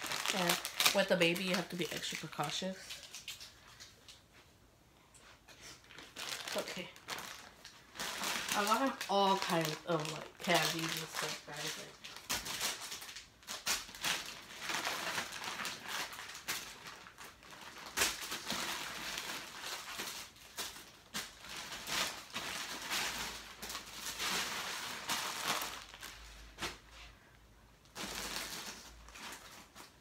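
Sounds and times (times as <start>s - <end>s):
plastic bag and wrappers crinkling: 0.0s - 4.4s, 5.2s - 27.1s, 27.8s - 30.0s.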